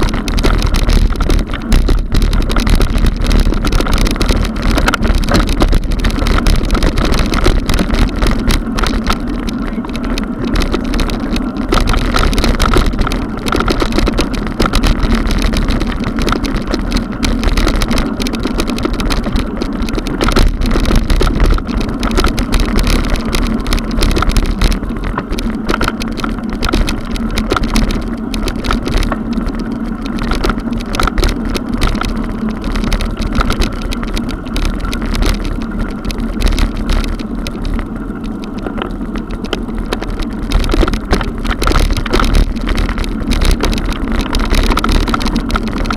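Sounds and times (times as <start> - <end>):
bike rumbling over stone paving: 0.0 - 45.9.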